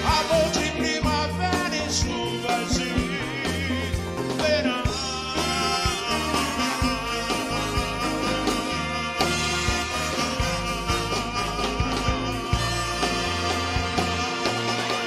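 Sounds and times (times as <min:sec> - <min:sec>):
big band playing: 0:00.0 - 0:15.0.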